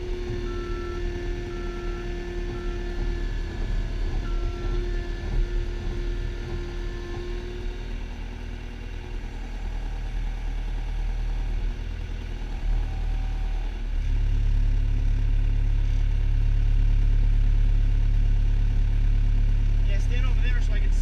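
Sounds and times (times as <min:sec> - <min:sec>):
skid steer engine running: 0:00.0 - 0:21.0.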